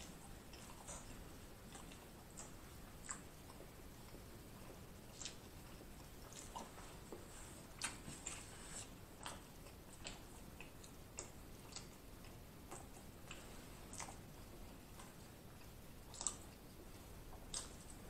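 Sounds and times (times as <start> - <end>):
faint chewing: 0.0 - 18.0.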